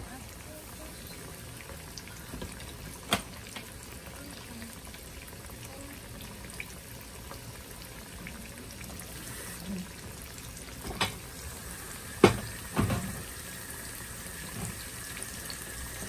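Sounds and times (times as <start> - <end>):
fish frying in oil: 0.0 - 16.0.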